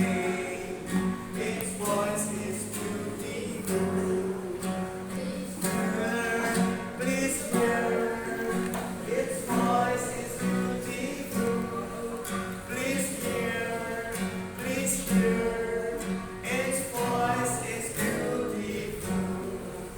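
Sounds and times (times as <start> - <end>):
person singing: 0.0 - 19.9
strummed acoustic guitar: 0.0 - 19.9.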